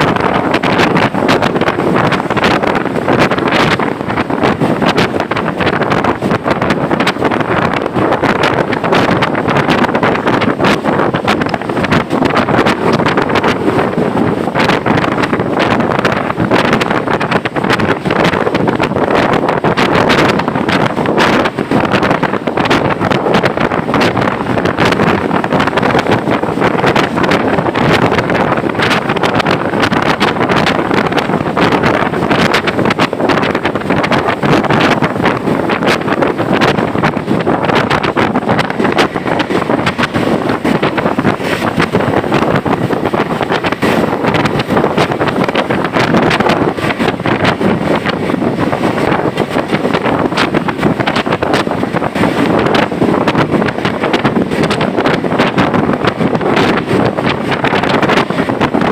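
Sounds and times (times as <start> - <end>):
moving vehicle running: 0.0 - 58.9
rain noise: 0.0 - 58.9
wind buffeting microphone: 0.0 - 58.9.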